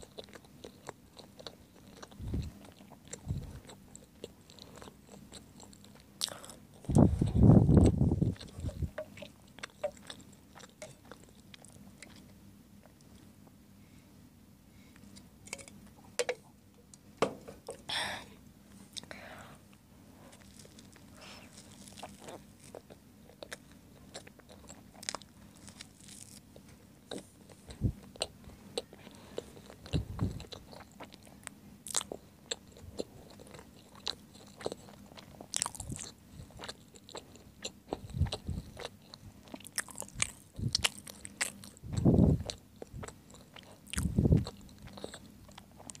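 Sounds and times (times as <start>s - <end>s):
wet chewing: 0.0s - 13.0s, 20.3s - 46.0s.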